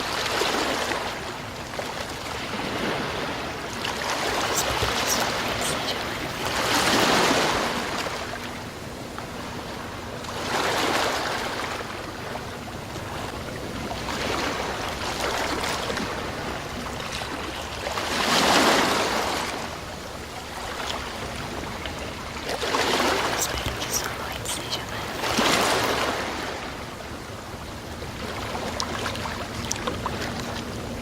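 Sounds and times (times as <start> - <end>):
sea waves breaking ashore: 0.0 - 31.0.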